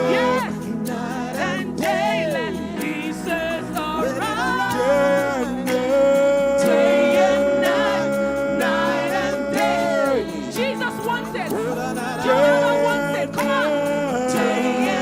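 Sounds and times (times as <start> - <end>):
person singing: 0.0 - 15.0
sustained backing chords: 0.0 - 15.0.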